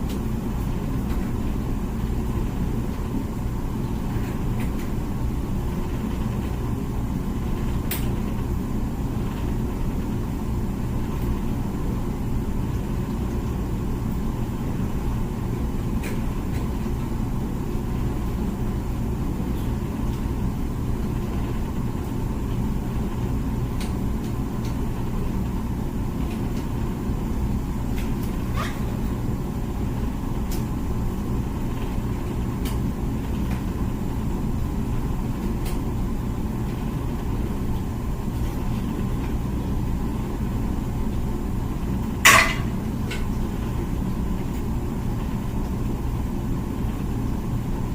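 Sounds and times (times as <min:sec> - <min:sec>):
dishwasher running: 0:00.0 - 0:47.9.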